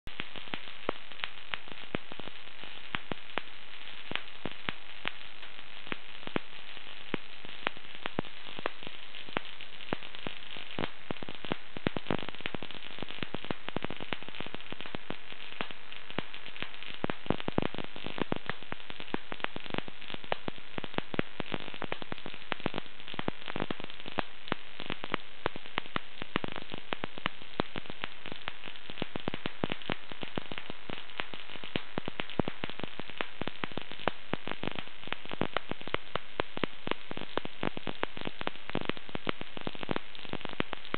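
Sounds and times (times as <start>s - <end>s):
high-voltage sparks crackling: 0.1s - 40.9s
sharp spark snaps: 0.1s - 40.9s.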